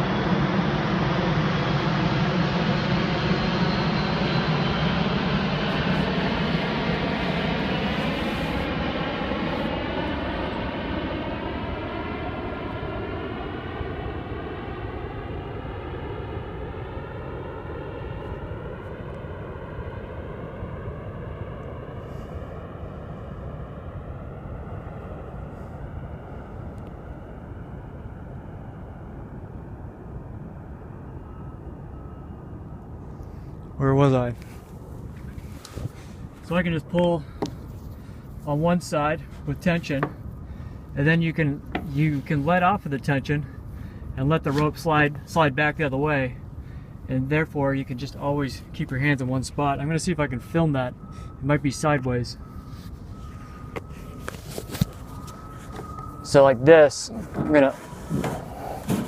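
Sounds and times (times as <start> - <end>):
airplane passing overhead: 0.0 - 59.0.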